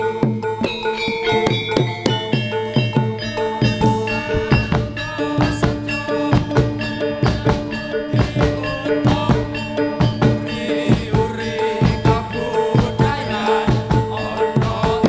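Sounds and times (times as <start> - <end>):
hand drum strokes: 0.0 - 15.0
ringing metallophone notes: 0.0 - 15.0.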